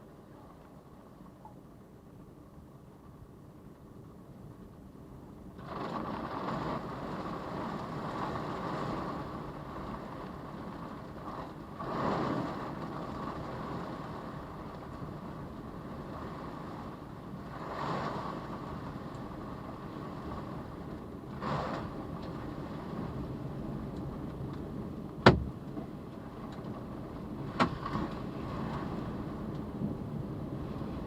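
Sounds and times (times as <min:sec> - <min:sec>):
storm wind blowing against car: 0:00.0 - 0:31.0.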